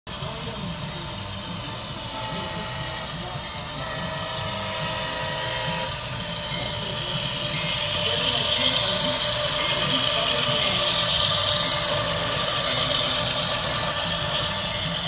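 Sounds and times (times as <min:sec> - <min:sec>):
model train running and clicking: 0:00.1 - 0:15.0.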